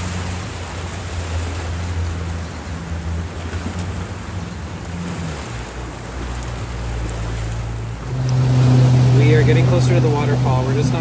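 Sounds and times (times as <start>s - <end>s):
boat motor droning: 0.0s - 11.0s
water rushing along hull: 0.0s - 11.0s.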